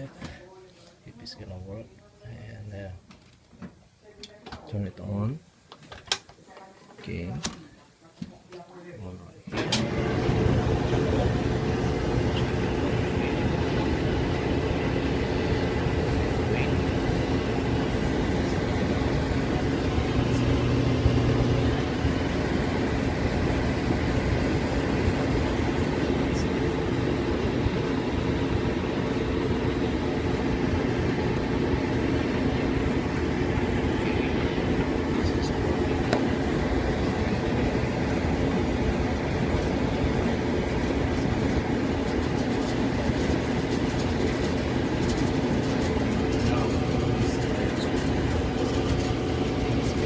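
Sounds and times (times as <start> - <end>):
clothes dryer rumbling: 9.5 - 50.0
deeper hum: 9.6 - 50.0.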